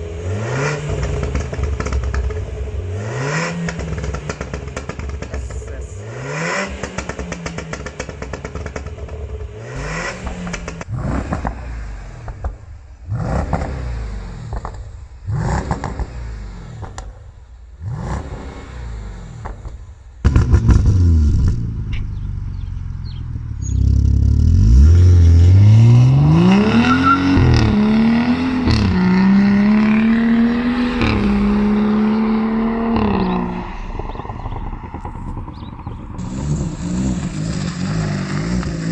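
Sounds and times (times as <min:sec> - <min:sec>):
exhaust popping and crackling: 0:00.0 - 0:18.6, 0:19.3 - 0:38.9
car engine revving: 0:00.0 - 0:38.9.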